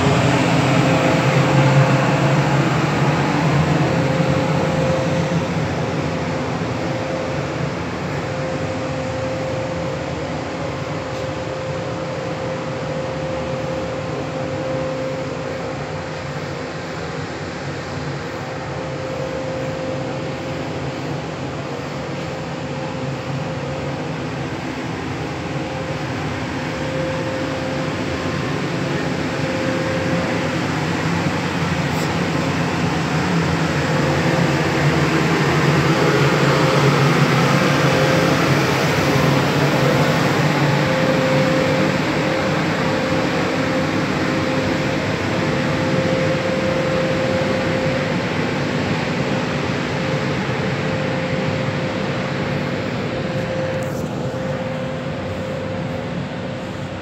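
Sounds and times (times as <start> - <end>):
locomotive cooling fans whine: 0.0 - 57.0
rumble of train wagons: 0.0 - 57.0.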